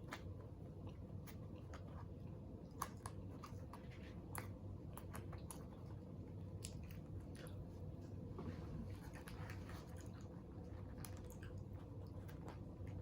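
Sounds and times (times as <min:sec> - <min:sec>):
chewing and eating: 0:00.0 - 0:13.0.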